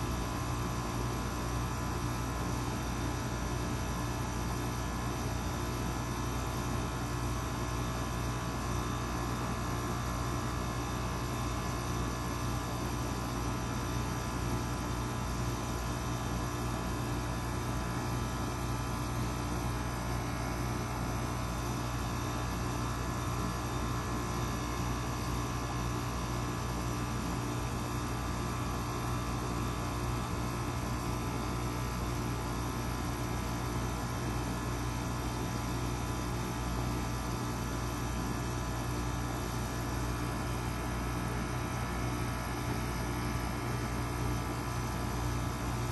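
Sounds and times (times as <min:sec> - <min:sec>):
heat pump humming and rushing: 0:00.0 - 0:45.9.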